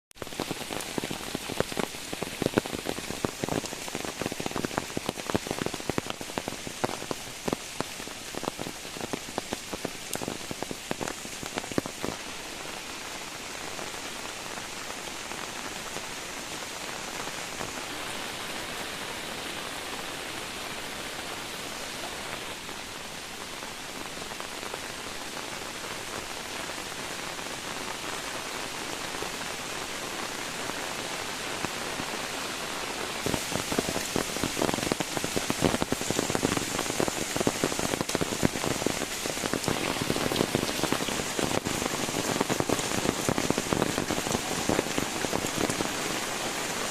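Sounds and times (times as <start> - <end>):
heavy rain: 0.1 - 46.9
loud raindrops striking close by: 0.1 - 46.9.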